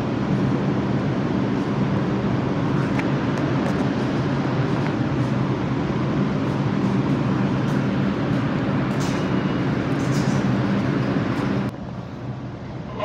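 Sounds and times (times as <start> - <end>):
low electric motor hum: 0.0 - 13.0
subway train rumble: 0.0 - 13.0.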